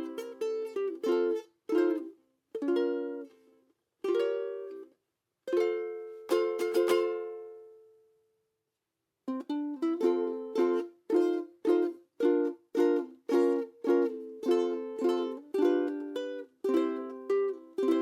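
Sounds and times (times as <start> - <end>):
ukulele strumming chords: 0.0 - 4.9, 5.5 - 7.9, 9.2 - 18.0.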